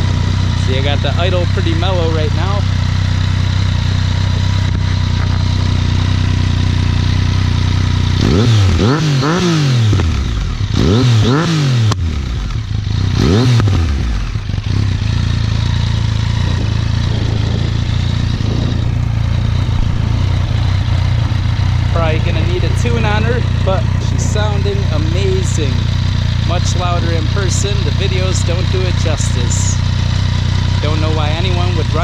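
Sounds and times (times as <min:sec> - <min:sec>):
motorcycle engine idling: 0:00.0 - 0:32.0
motorcycle engine revving: 0:00.0 - 0:32.0.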